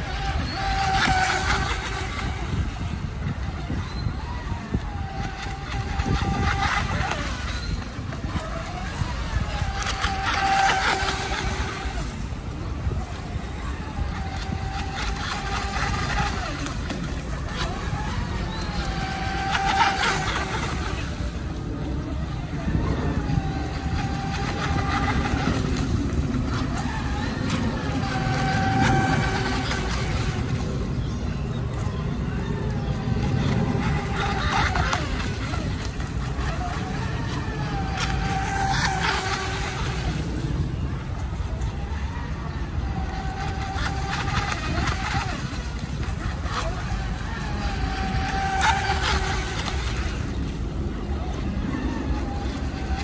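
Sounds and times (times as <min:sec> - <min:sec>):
electric motor whining: 0:00.0 - 0:53.0
low rumble of background noise: 0:00.0 - 0:53.0.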